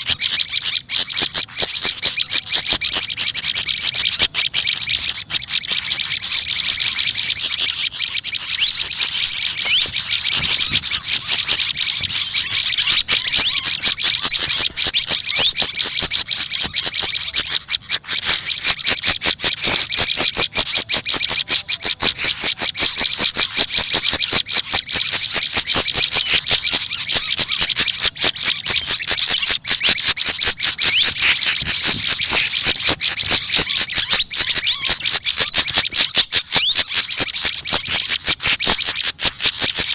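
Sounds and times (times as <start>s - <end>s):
songbirds chattering rapid high chips: 0.0s - 39.9s.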